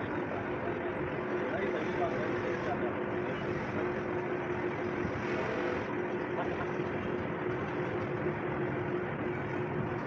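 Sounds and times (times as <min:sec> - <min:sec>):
machine humming steadily: 0:00.0 - 0:10.0.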